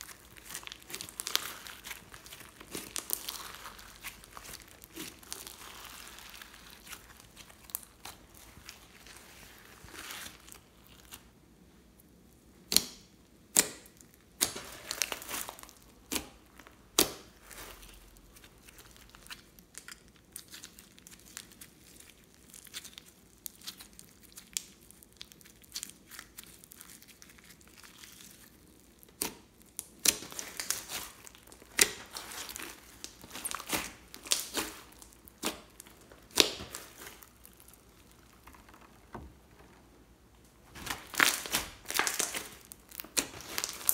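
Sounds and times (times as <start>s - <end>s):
slime popping and crackling: 0.0s - 11.3s, 12.6s - 43.9s.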